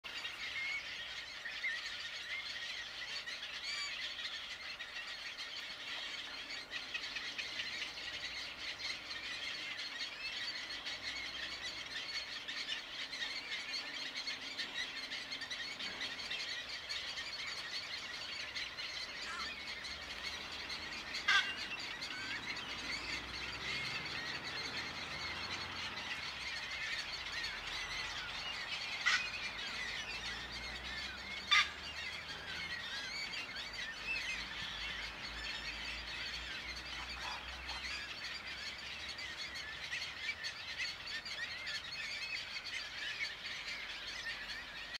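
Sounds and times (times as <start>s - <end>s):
sharp bird calls: 0.1s - 44.9s.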